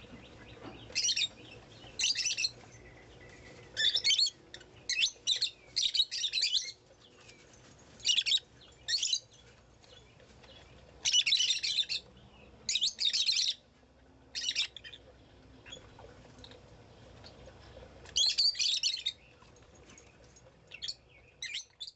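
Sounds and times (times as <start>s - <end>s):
bird chirping: 0.0s - 13.6s, 14.3s - 16.6s, 17.2s - 21.9s.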